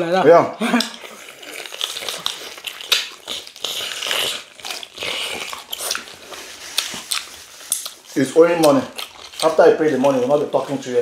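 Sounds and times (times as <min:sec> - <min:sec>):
people biting and chewing food: 0:00.6 - 0:11.0.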